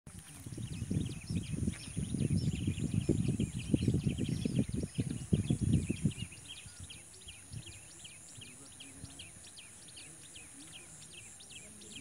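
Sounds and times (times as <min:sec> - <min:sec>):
small birds chirping: 0:00.1 - 0:12.0
wind buffeting the microphone: 0:00.1 - 0:12.0.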